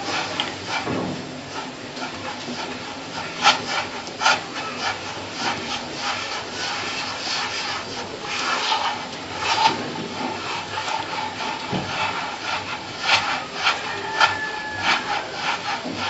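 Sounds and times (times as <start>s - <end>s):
hands rubbing damp semolina: 0.0s - 16.0s.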